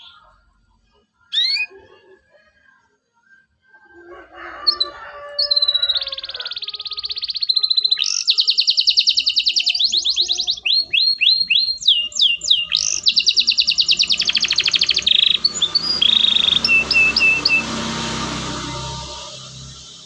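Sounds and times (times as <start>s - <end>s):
canary singing: 0.0s - 2.8s, 3.4s - 20.0s.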